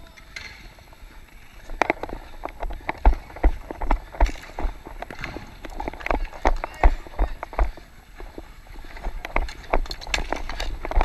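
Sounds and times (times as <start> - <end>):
running footsteps on court tiles: 1.6 - 11.0.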